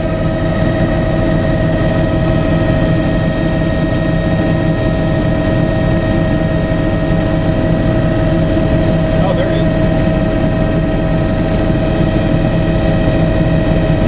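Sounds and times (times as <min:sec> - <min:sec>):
helicopter engine and rotor noise: 0:00.0 - 0:14.0
high whine: 0:00.0 - 0:14.0.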